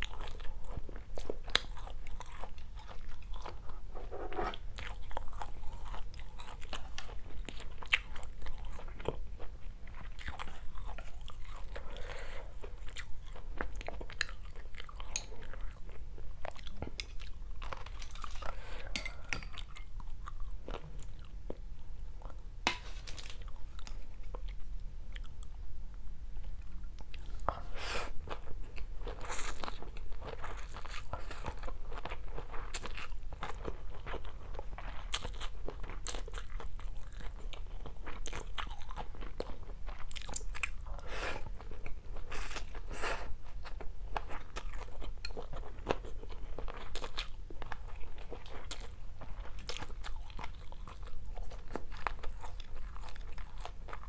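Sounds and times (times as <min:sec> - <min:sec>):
person chewing food: 0:00.0 - 0:25.6, 0:26.4 - 0:54.0.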